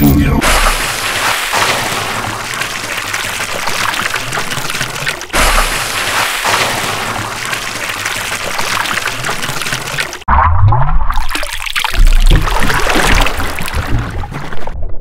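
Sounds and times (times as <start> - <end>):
dense watery noise: 0.0 - 15.0.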